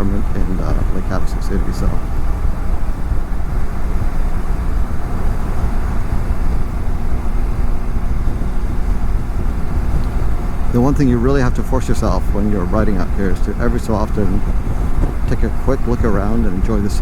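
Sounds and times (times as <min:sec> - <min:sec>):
wind rushing: 0:00.0 - 0:16.7
motorcycle engine running: 0:00.0 - 0:17.0.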